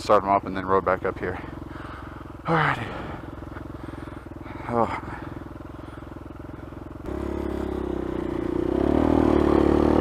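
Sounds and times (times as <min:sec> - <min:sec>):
dirt bike engine revving: 0:01.2 - 0:10.0.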